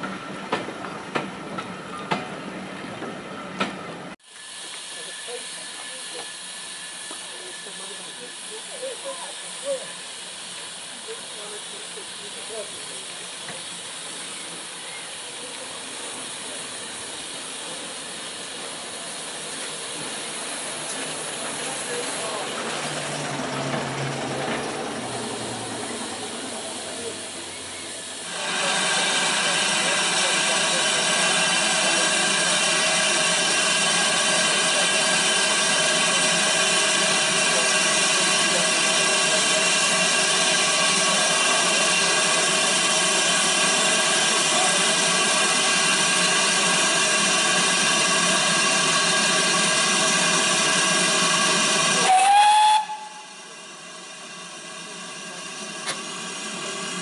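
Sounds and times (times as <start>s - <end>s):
steam roaring from safety valves: 0.0s - 57.0s.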